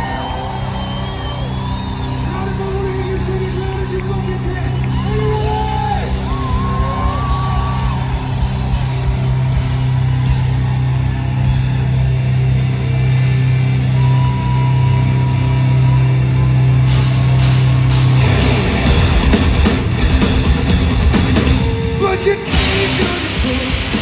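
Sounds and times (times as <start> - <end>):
distorted electric guitars: 0.0 - 24.0
hard rock band playing: 0.0 - 24.0.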